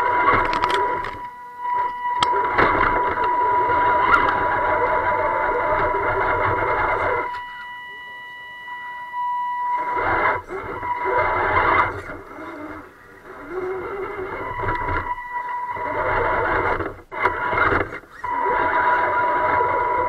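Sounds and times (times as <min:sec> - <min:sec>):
toy truck drivetrain running: 0:00.0 - 0:07.4, 0:09.8 - 0:20.0
electric motor whine: 0:00.0 - 0:20.0.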